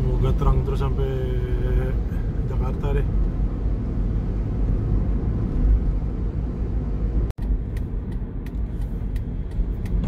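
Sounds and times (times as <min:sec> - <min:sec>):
car driving on wet road: 0:00.0 - 0:10.0.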